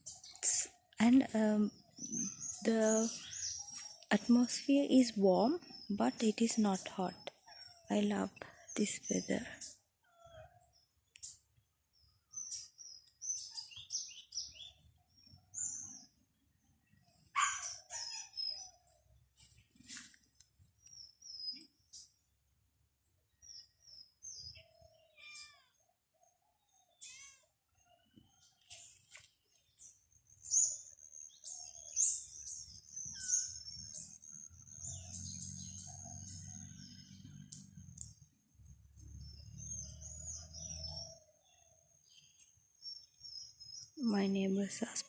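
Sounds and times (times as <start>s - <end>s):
birds chirping and singing: 0.0s - 19.2s, 20.6s - 22.3s, 23.1s - 45.0s.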